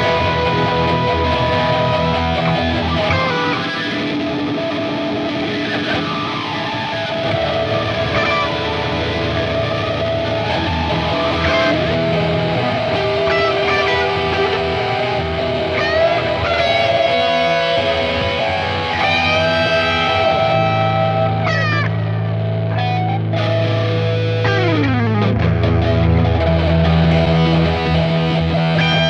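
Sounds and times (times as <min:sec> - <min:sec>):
electric guitar music: 0:00.0 - 0:29.0.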